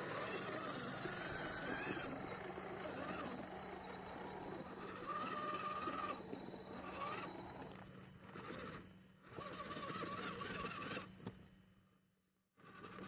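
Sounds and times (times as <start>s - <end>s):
small electric motor whining: 0.0s - 11.3s, 12.5s - 13.0s
thin high electronic whine: 0.0s - 11.8s.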